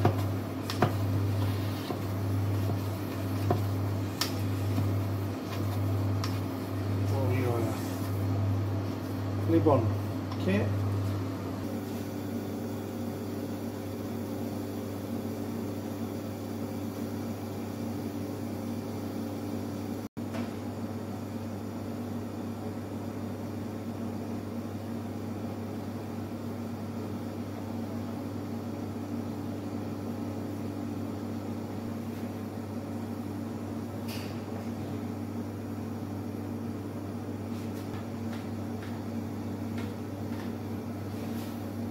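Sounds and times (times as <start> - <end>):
kitchen equipment humming: 0.0 - 21.8, 25.4 - 41.9.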